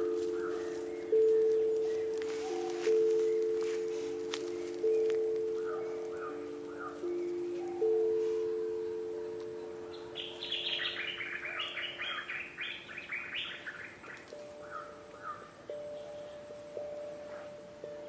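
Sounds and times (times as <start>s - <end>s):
bird singing repeated notes: 0.0s - 18.0s.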